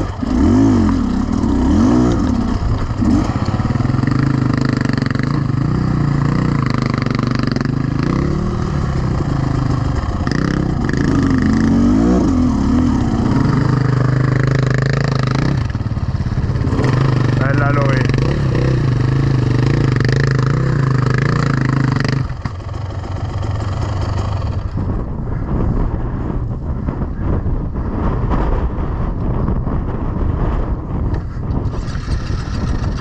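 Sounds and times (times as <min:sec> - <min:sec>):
motorcycle engine revving: 0:00.0 - 0:30.5, 0:31.2 - 0:33.0.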